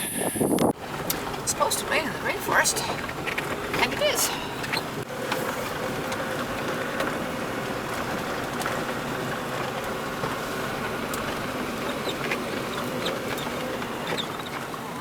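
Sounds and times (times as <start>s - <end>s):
car engine running: 0.0s - 15.0s
road and rain noise: 0.5s - 15.0s.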